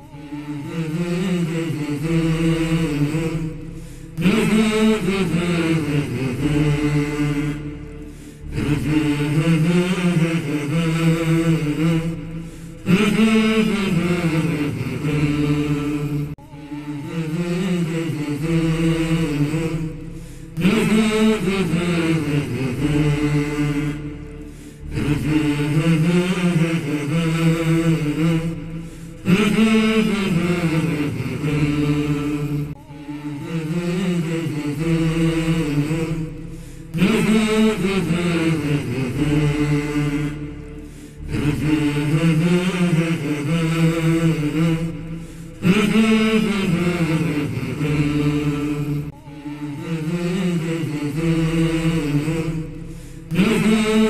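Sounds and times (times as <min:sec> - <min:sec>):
wordless vocal chant: 0:00.0 - 0:54.0.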